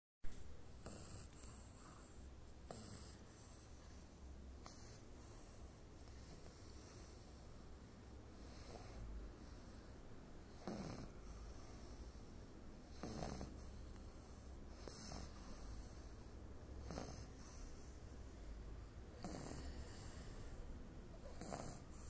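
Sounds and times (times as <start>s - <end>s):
small dog snoring: 0.6s - 7.7s, 8.3s - 22.0s.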